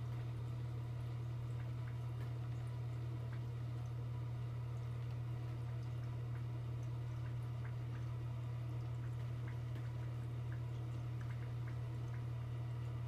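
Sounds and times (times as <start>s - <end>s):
aquarium equipment hum: 0.0s - 13.0s
water drips and ticks: 0.0s - 13.0s.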